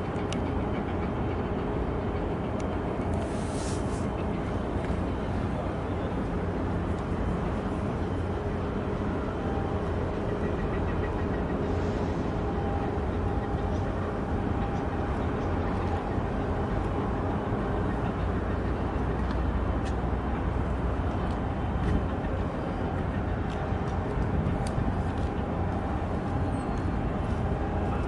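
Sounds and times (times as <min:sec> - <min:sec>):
low diesel rumble of ships: 0:00.0 - 0:28.0.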